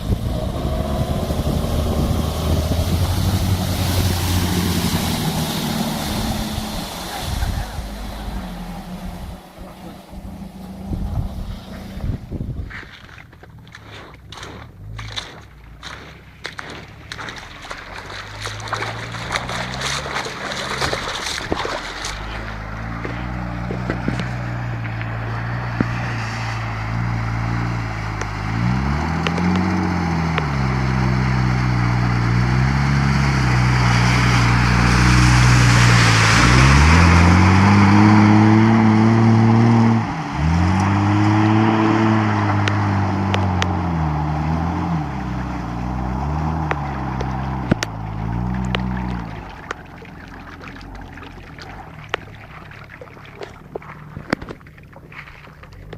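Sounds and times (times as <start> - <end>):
car engine revving: 0.0 - 55.9
spinning tyres and water spray: 0.0 - 55.9.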